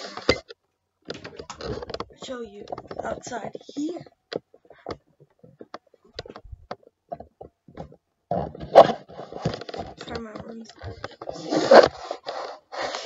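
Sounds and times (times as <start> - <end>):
rubbing and rustling: 1.4 - 13.0.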